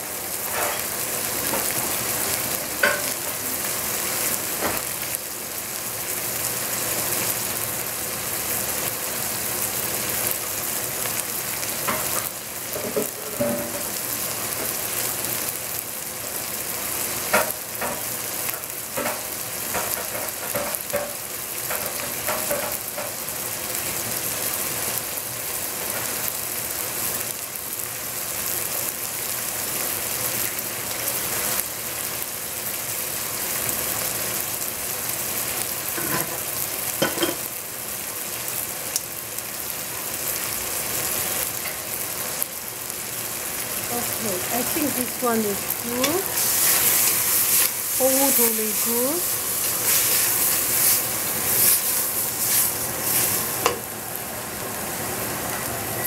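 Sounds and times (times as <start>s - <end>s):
greens sizzling in a pot: 0.0s - 56.0s.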